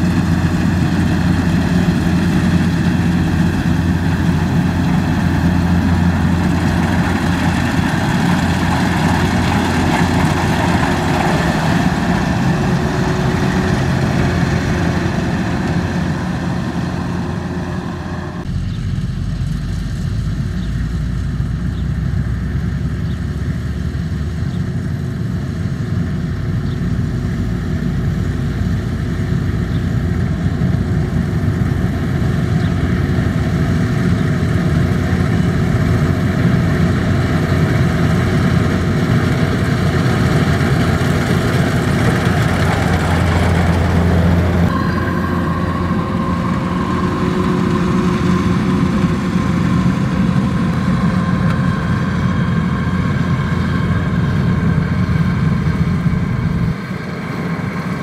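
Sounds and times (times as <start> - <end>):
combine harvester engine and machinery: 0.0 - 58.0.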